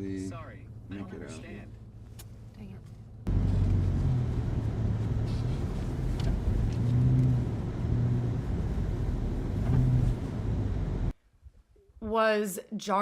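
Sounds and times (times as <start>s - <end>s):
car engine and road noise: 0.0s - 11.1s.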